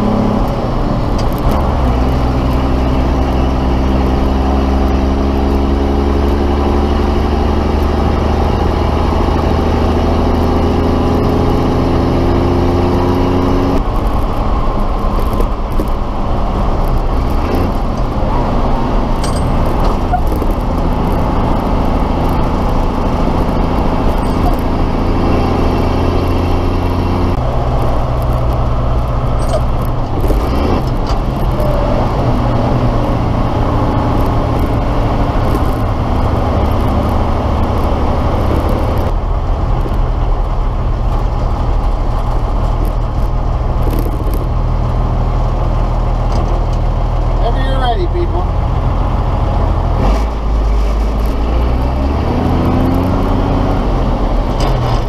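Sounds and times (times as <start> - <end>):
diesel truck engine pulling: 0.0 - 55.0.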